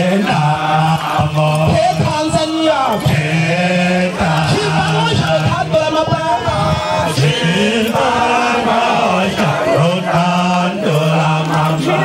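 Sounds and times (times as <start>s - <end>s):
voices chanting a traditional song: 0.0s - 12.0s.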